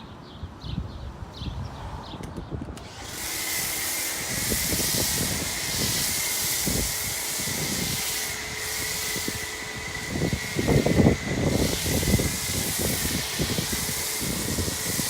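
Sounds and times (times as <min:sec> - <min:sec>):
foam cannon spray hiss: 0:02.8 - 0:15.0.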